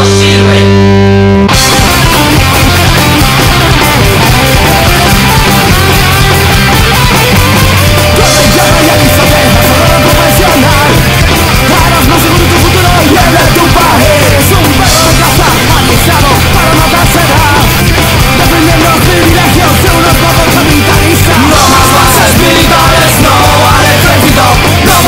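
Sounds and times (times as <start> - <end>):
punk rock music: 0.0 - 25.0.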